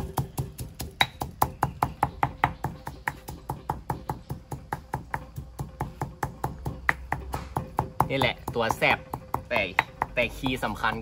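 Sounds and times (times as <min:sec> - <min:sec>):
pestle pounding in a mortar: 0:00.0 - 0:11.0.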